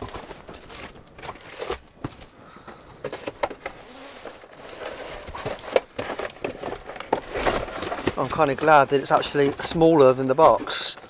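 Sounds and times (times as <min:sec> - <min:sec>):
cardboard rustling: 0:00.0 - 0:11.0
scrapes: 0:00.0 - 0:11.0.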